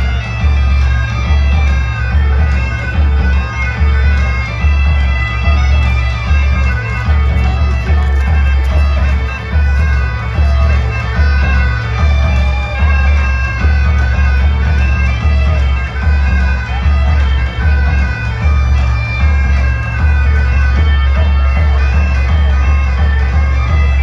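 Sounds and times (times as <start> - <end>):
bagpipes playing dance tune: 0.0 - 24.0.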